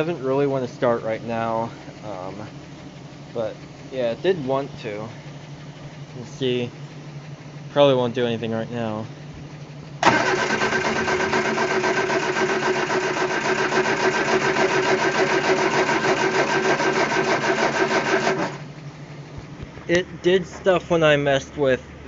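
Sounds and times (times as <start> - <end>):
starter motor cranking engine: 0.0 - 22.0.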